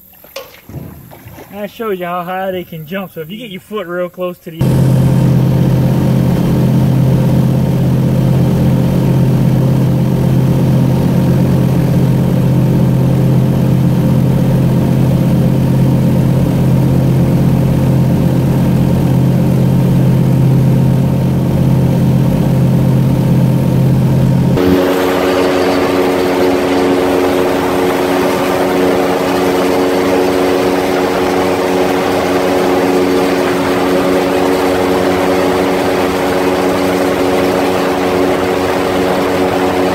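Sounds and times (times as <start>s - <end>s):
airboat engine and propeller: 0.0s - 3.4s, 4.6s - 39.9s.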